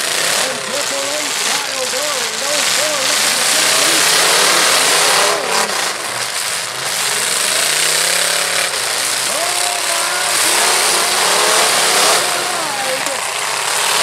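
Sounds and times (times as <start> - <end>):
loud dense noise: 0.0 - 14.0
truck engines revving: 0.0 - 14.0.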